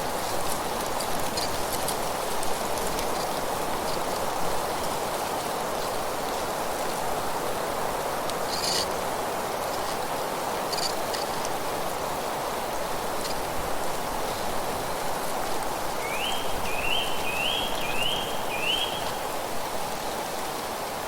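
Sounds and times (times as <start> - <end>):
rustling leaves: 0.0 - 21.0
wind: 0.0 - 21.0.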